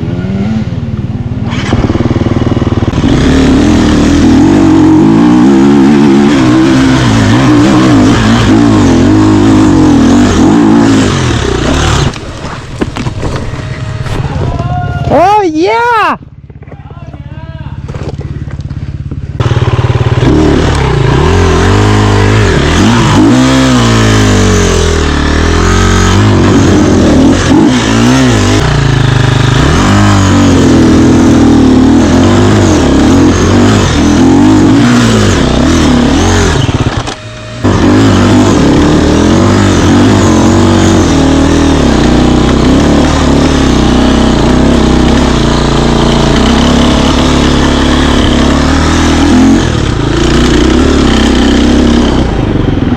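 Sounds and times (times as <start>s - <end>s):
dirt bike engine revving: 0.0s - 15.4s, 17.8s - 52.9s.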